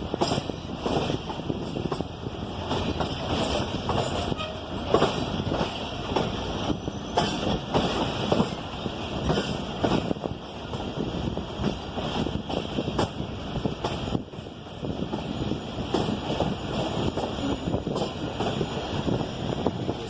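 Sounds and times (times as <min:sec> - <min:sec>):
train wheels clacking over rail joints: 0:00.0 - 0:11.0, 0:11.6 - 0:18.8
train rumbling on track: 0:00.0 - 0:20.0.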